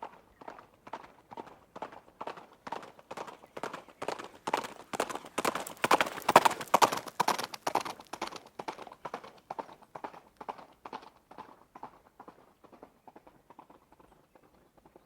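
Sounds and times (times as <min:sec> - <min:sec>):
horse hoofbeats running: 0:00.0 - 0:15.0.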